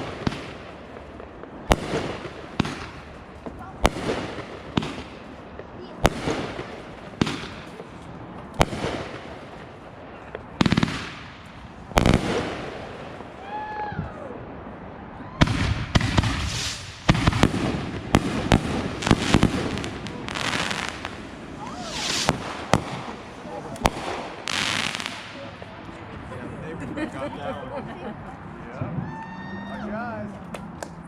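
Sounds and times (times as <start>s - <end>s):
firework bangs and crackling: 0.0s - 26.3s.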